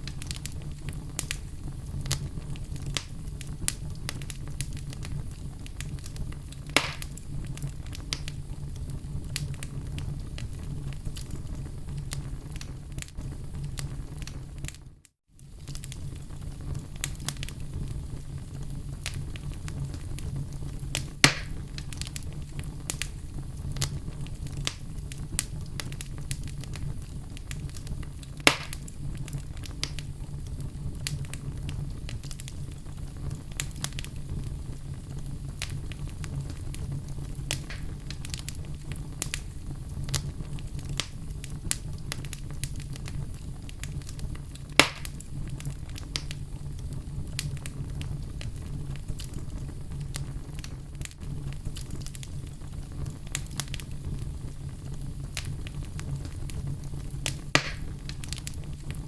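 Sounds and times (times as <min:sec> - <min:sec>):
fire crackling in fireplace: 0:00.0 - 0:59.0
loud fire pops: 0:00.0 - 0:59.0.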